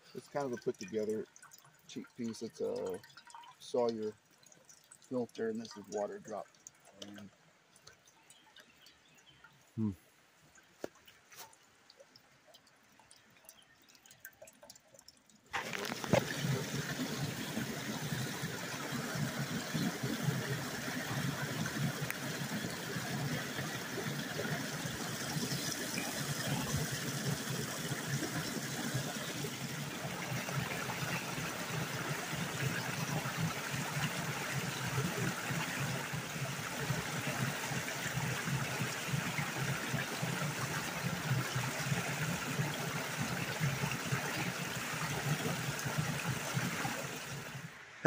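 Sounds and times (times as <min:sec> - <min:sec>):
creek pouring over rocks: 0:00.0 - 0:48.0.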